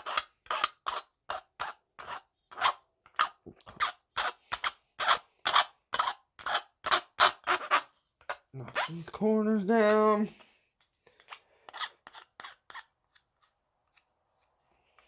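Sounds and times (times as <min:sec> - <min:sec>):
hand file on aluminum: 0:00.0 - 0:09.2, 0:11.2 - 0:15.0.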